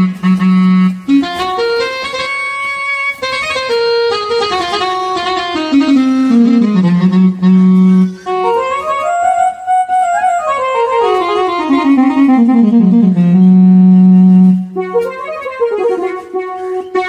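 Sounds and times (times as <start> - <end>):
keyboard reed tone playing scale: 0.0 - 17.0.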